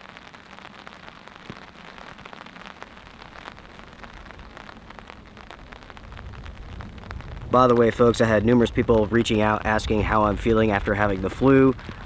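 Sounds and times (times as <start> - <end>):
rain drops hitting surface: 0.0 - 12.0.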